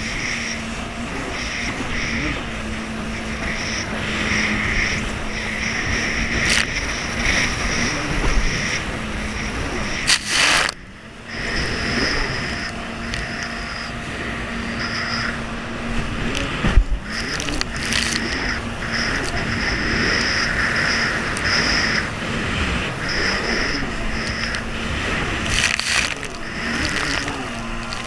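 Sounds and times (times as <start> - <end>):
hull slapping water: 0.0 - 28.0
jet ski engine humming: 0.0 - 28.0
wind and spray rushing: 0.0 - 28.0.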